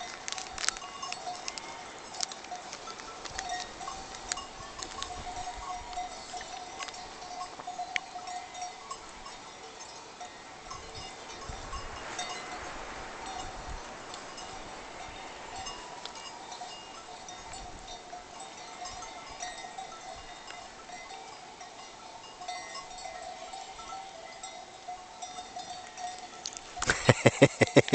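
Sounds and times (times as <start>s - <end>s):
distant livestock bells clinking: 0.0s - 27.9s
faint high-pitched tinkles: 0.0s - 27.9s.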